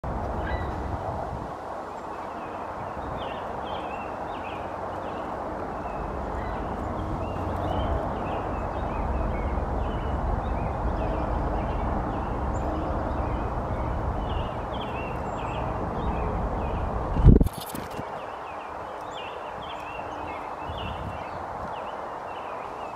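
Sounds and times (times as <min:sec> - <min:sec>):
low rush of outdoor noise: 0:00.0 - 0:22.9
small songbirds chirping: 0:01.8 - 0:22.9.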